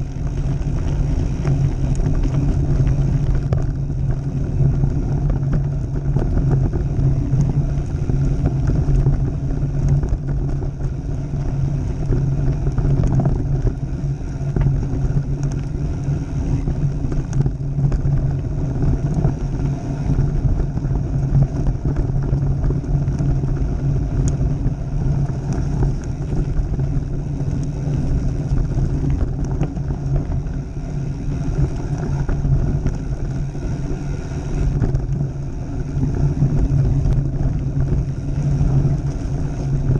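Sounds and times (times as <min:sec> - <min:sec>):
steady low hum: 0:00.0 - 0:39.9
tyres rumbling over gravel: 0:00.0 - 0:39.9
wind on microphone: 0:00.0 - 0:39.9.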